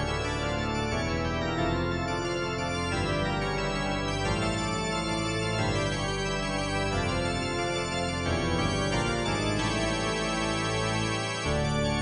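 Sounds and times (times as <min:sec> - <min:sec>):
sustained organ chords: 0:00.0 - 0:12.0.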